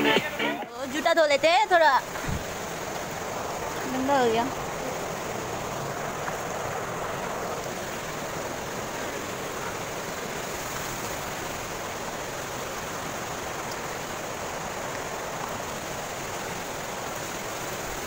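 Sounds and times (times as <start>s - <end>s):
stream running over pebbles: 0.7s - 18.0s.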